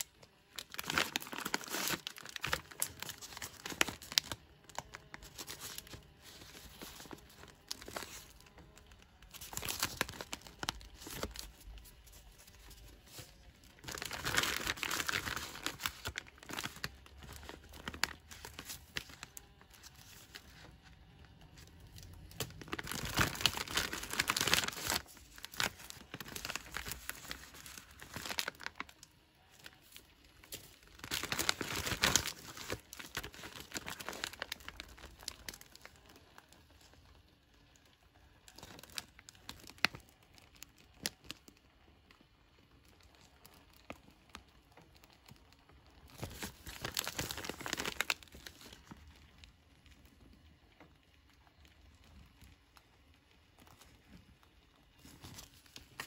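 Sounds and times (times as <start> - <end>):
packaging crinkling and rustling: 0.0 - 56.0.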